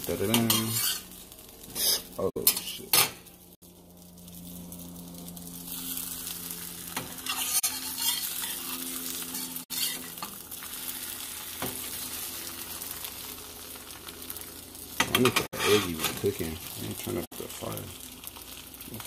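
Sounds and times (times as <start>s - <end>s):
tortillas sizzling in a pan: 0.0s - 19.0s.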